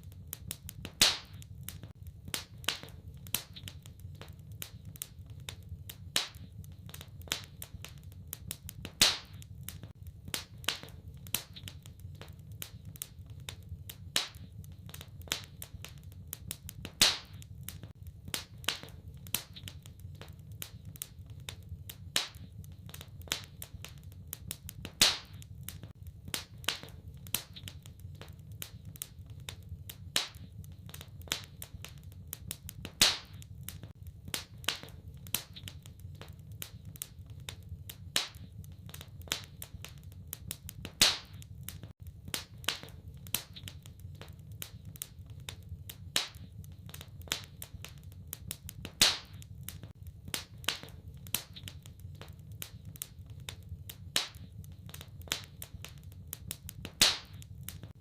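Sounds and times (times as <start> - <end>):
sharp fire pops: 0.0 - 58.0
wood fire crackling: 0.0 - 58.0.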